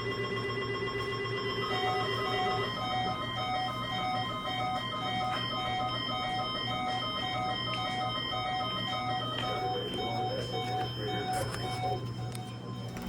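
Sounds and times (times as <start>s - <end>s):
alternating high and low beeps: 0.0s - 13.0s
steady held tones: 0.0s - 13.0s.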